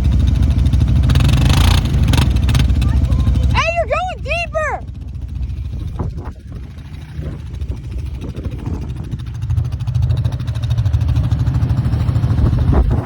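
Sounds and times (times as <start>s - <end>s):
atv engine revving in mud: 0.0s - 13.0s.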